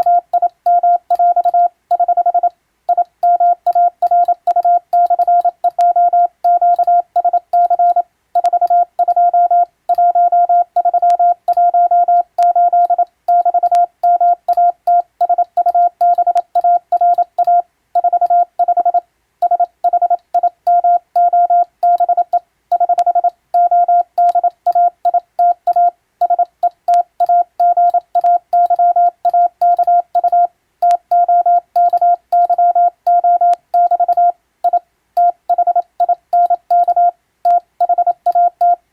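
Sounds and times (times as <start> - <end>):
morse code beeps: 0.0 - 38.8.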